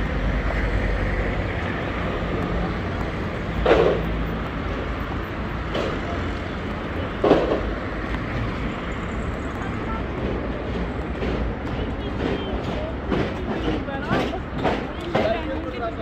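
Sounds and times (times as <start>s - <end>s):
steady traffic noise: 0.0s - 16.0s.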